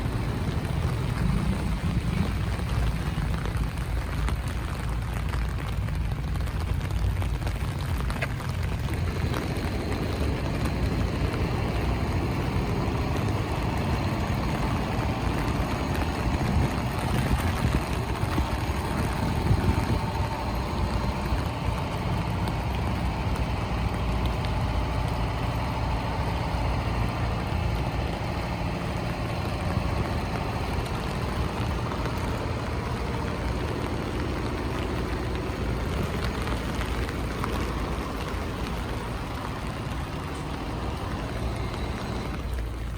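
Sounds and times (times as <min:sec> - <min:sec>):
rain hiss on wet road: 0:00.0 - 0:42.9
traffic engines rumbling: 0:00.0 - 0:42.9.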